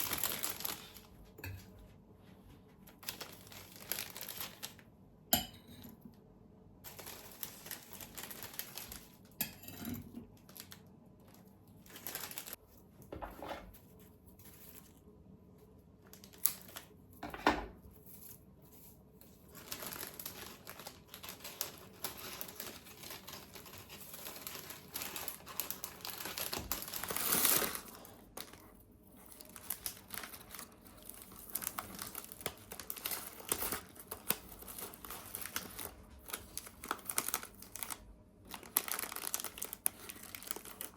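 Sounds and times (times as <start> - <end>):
wrapping material crinkling: 0.0 - 1.4, 2.2 - 5.0, 6.8 - 9.4, 10.2 - 12.9, 13.8 - 17.1, 17.8 - 40.9.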